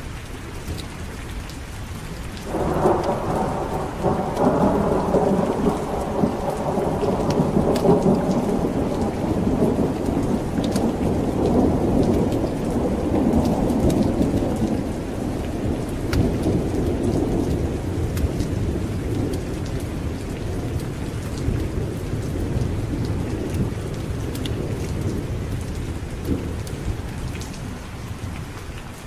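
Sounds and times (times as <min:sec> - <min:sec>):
heavy rain: 0:00.0 - 0:29.0
low rumble of thunder: 0:02.4 - 0:28.7.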